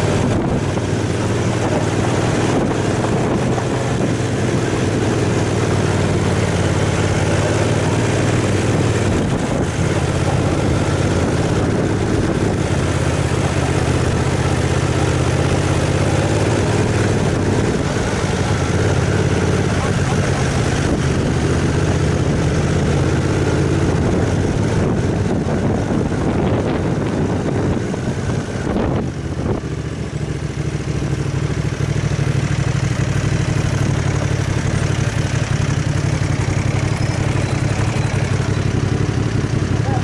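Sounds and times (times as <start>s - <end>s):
motorcycle engine droning: 0.0s - 40.0s.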